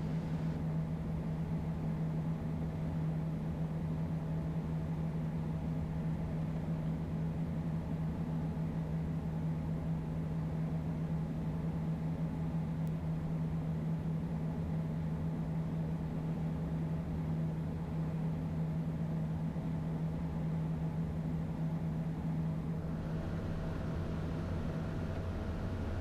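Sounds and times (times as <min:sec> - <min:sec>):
jet cabin airflow and engine noise: 0:00.0 - 0:26.0
steady low hum: 0:00.0 - 0:26.0.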